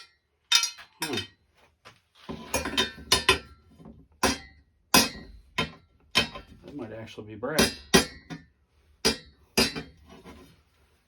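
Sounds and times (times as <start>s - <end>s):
handling and scraping: 0.0s - 4.2s, 5.1s - 7.2s, 8.0s - 11.0s.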